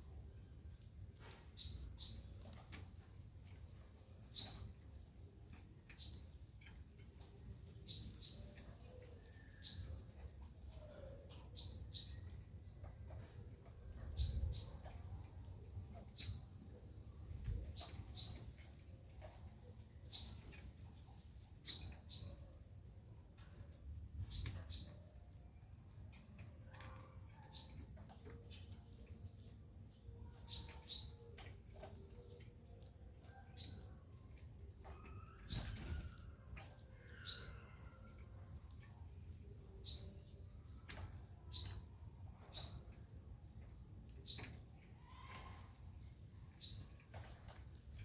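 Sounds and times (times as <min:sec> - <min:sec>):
sunbird chirping: 0:00.0 - 0:48.0.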